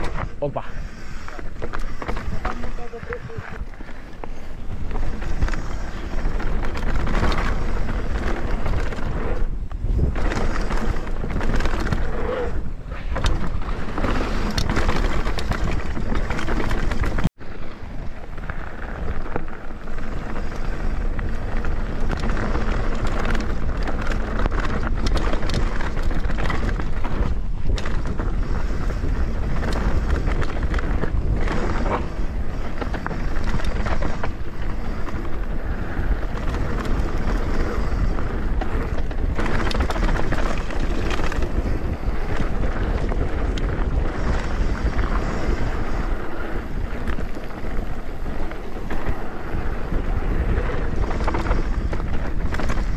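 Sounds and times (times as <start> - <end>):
bike knocking and rattling: 0.0 - 52.9
tyre noise on dirt: 0.0 - 52.9
wind buffeting microphone: 0.0 - 52.9.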